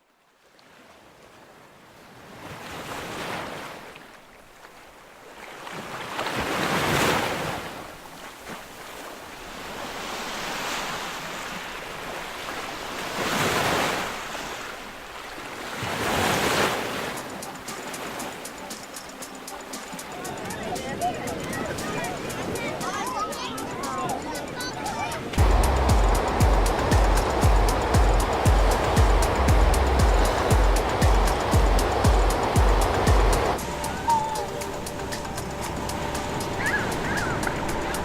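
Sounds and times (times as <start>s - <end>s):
sea waves breaking on shore: 0.0s - 38.0s.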